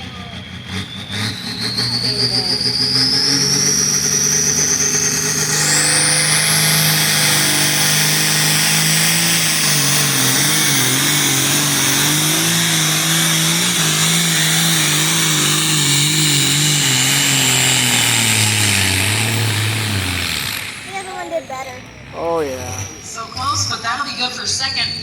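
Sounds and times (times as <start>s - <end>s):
tractor engine under heavy load: 0.0s - 24.9s.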